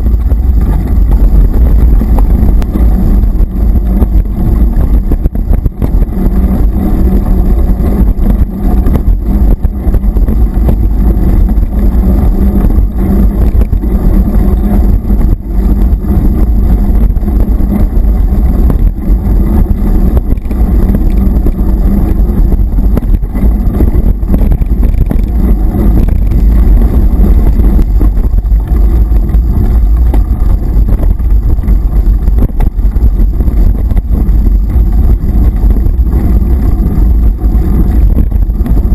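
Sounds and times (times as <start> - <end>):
bike trail vibration rumble: 0.0 - 38.9
wind buffeting microphone: 0.0 - 38.9.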